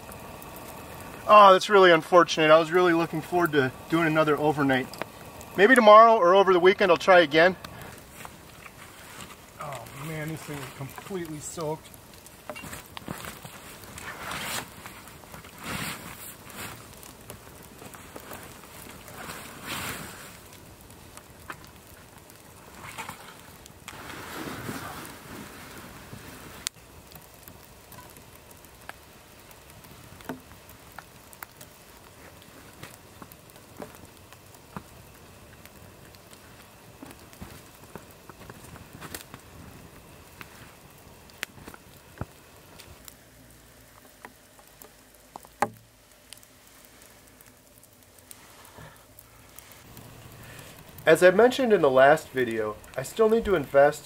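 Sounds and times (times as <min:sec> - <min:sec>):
water dripping from pine needles: 0:00.0 - 0:54.0.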